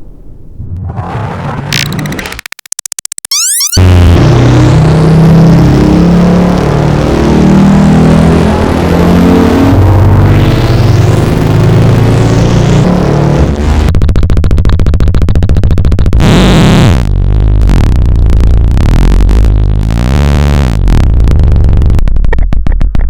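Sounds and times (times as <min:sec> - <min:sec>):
pulsing synthesizer buzz: 0:01.8 - 0:22.2.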